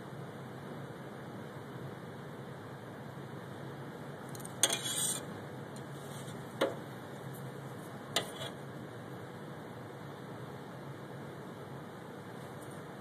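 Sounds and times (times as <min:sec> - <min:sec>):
room hiss: 0:00.0 - 0:13.0.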